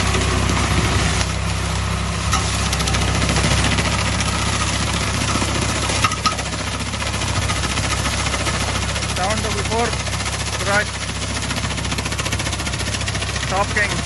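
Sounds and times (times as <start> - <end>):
shredder rotor clattering: 0.0 - 14.0
tractor diesel engine under load: 0.0 - 14.0.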